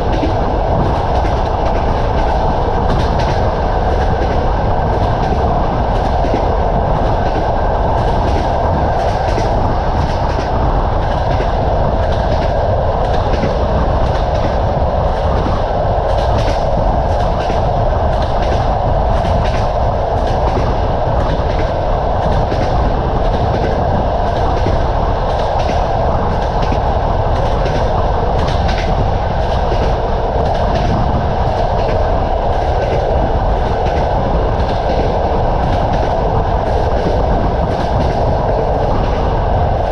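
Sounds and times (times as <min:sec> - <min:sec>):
train running at speed: 0:00.0 - 0:39.9.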